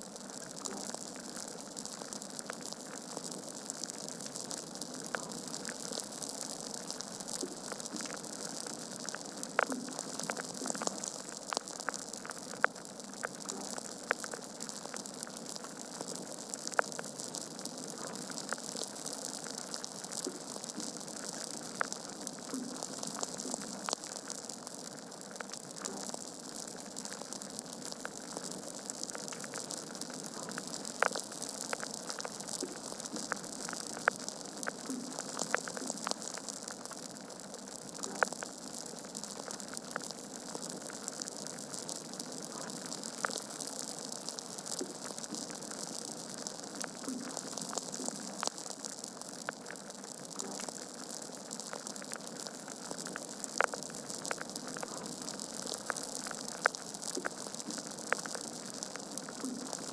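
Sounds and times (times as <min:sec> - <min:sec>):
wood fire crackling and popping: 0:00.2 - 0:59.9.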